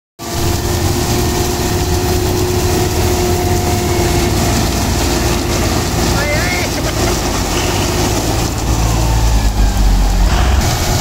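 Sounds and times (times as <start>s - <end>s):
harvester diesel engine drone: 0.2s - 11.0s
steady machinery whine: 0.2s - 11.0s.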